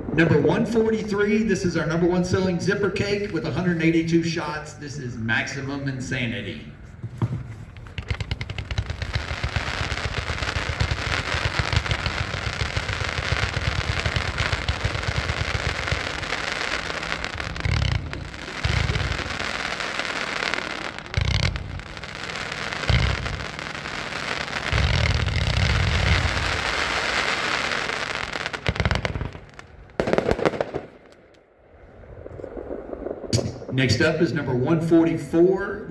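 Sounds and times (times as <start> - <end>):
fireworks shots crackling: 0.0 - 35.1
heavy fireworks booms: 0.0 - 35.9.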